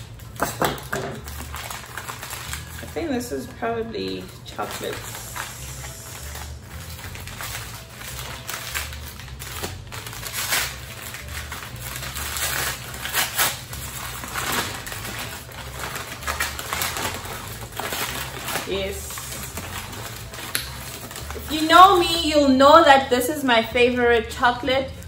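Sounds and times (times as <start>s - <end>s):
packing paper crinkling: 0.0s - 22.2s.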